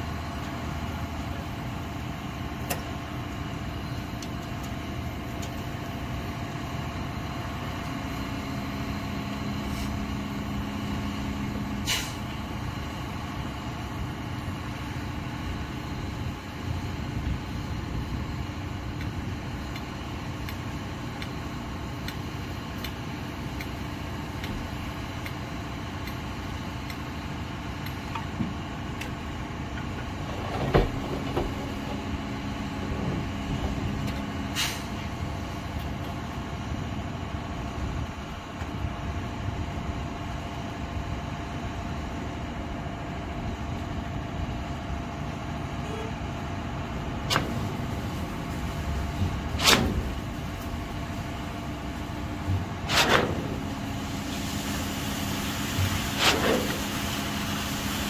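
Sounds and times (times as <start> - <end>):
heavy truck engine running: 0.0 - 58.0.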